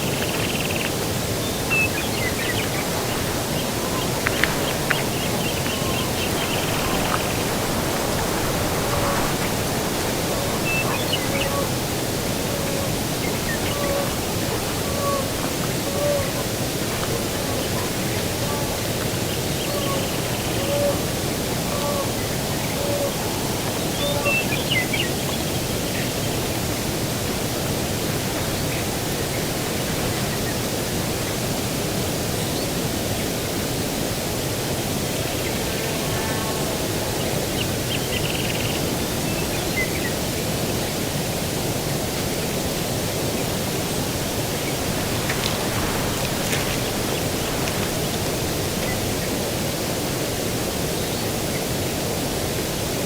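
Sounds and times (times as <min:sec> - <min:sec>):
breeze rushing hiss: 0:00.0 - 0:53.0.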